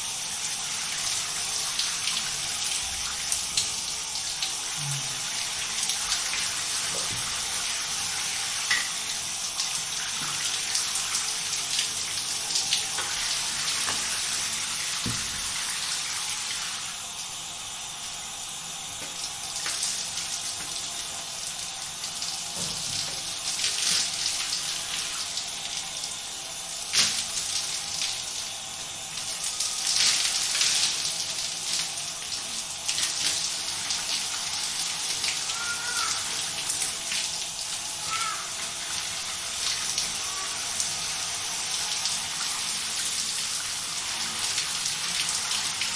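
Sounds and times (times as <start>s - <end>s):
shower spraying water: 0.0s - 45.9s.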